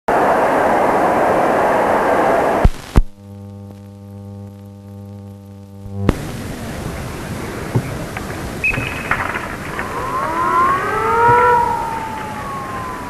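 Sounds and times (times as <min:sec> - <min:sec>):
loud hiss: 0:00.1 - 0:03.1, 0:04.5 - 0:13.0
electrical mains hum: 0:00.1 - 0:13.0.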